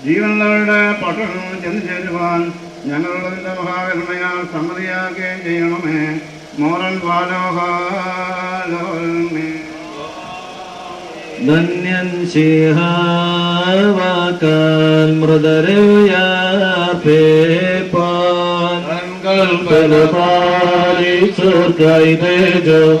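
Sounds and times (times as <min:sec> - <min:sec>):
men chanting a hymn: 0:00.0 - 0:23.0.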